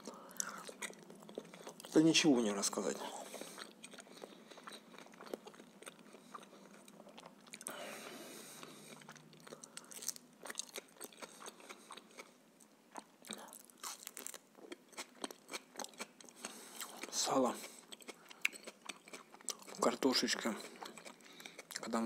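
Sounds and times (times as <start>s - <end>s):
chewing with crisp crunching: 0.0s - 22.0s.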